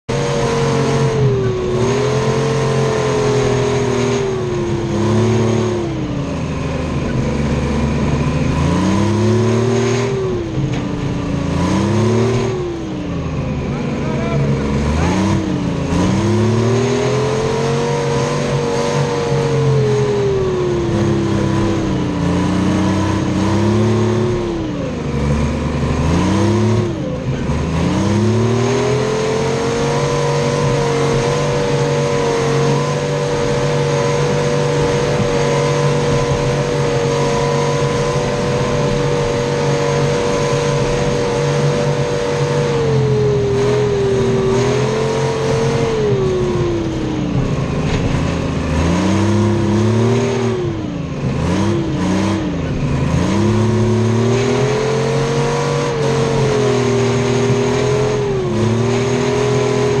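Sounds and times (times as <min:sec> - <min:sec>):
diesel engine running under load: 0:00.1 - 1:00.0.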